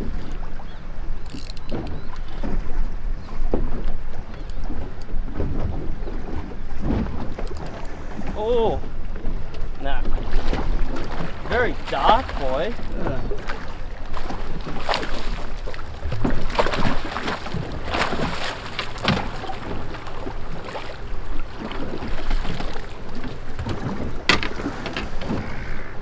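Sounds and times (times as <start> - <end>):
water lapping around boat: 0.0 - 26.0.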